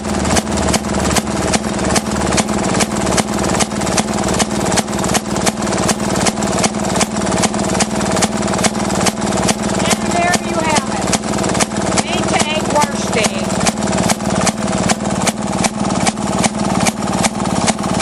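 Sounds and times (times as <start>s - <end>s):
engine drone with knocking: 0.0s - 18.0s.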